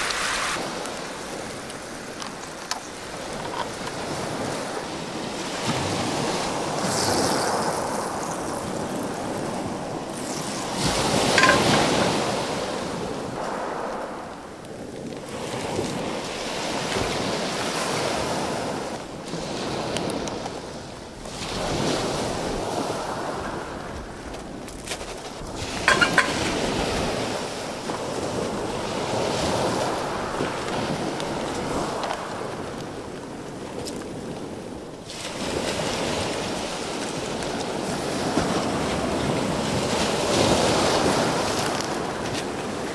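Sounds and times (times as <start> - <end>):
waves breaking on shingle beach: 0.0 - 42.9.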